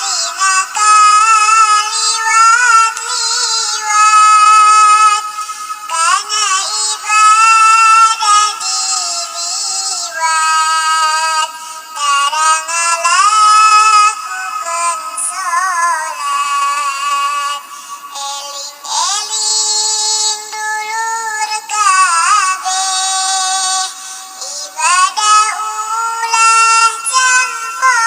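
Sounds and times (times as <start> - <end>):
high-pitched altered singing voice: 0.0 - 28.0.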